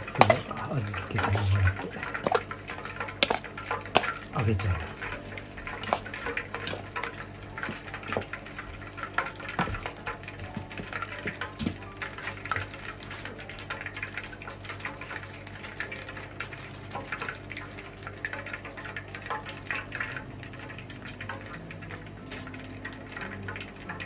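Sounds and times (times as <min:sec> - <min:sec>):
meat deep-frying in oil: 0:00.0 - 0:24.0.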